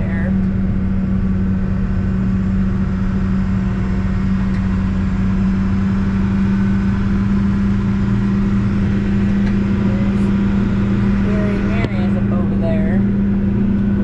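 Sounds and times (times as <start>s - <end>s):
backhoe engine running steadily: 0.0s - 14.0s.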